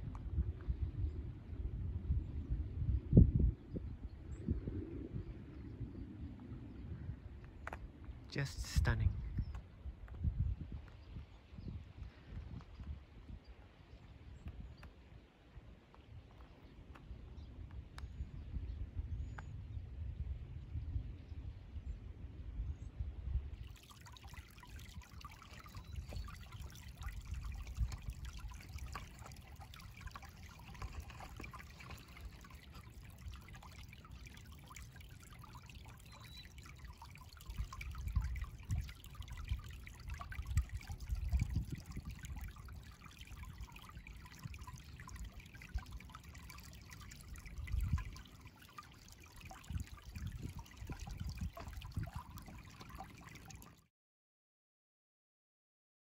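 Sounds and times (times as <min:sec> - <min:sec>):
wind buffeting microphone: 0:00.0 - 0:53.7
river water trickling over stones: 0:05.2 - 0:20.3, 0:23.5 - 0:53.8.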